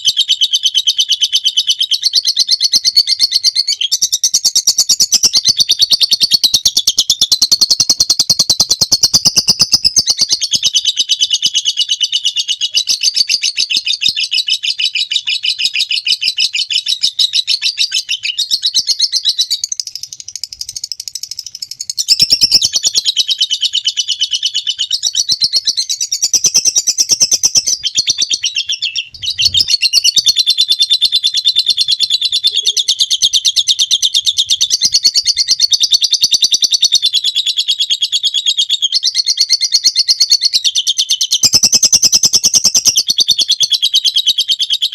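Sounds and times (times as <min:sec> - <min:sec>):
lovebird chattering trill: 0:00.0 - 0:44.9.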